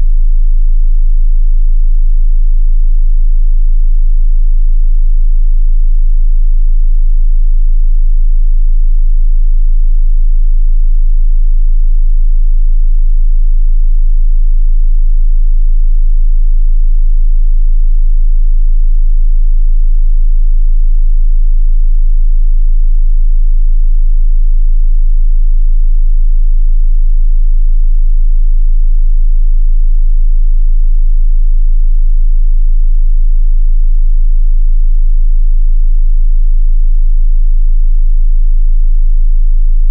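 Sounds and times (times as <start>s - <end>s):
deep bass test tone: 0.0s - 39.9s.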